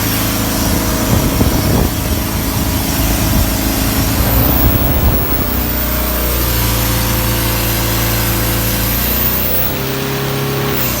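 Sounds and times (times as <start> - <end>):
boat diesel engine running: 0.0 - 11.0.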